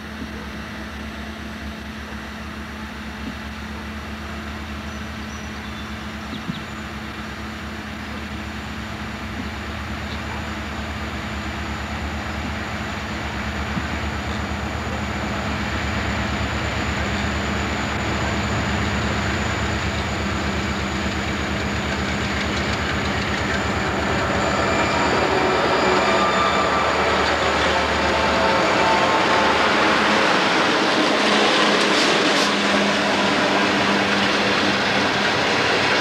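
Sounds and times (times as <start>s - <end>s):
diesel locomotives rumbling: 0.0s - 36.0s.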